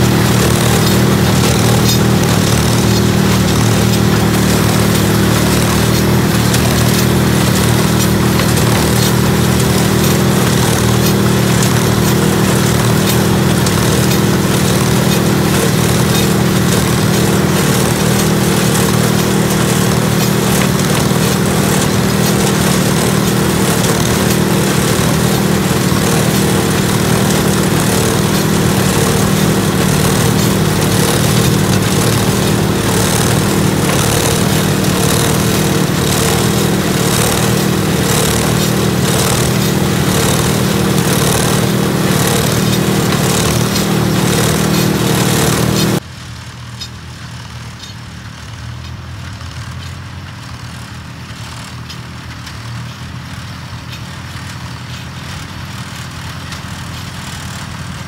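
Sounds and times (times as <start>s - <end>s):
hay baler running: 0.0s - 58.0s.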